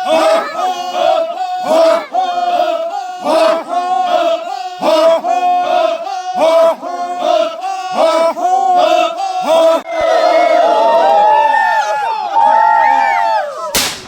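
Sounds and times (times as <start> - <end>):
group of men shouting: 0.0 - 14.0.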